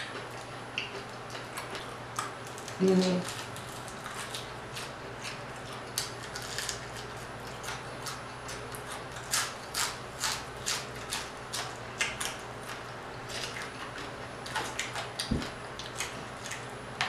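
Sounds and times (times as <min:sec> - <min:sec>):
crunching of crispy food: 0:00.8 - 0:16.8.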